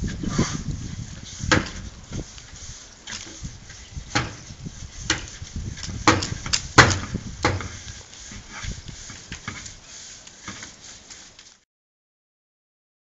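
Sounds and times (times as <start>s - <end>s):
brush scrubbing metal cladding: 0.0s - 11.6s.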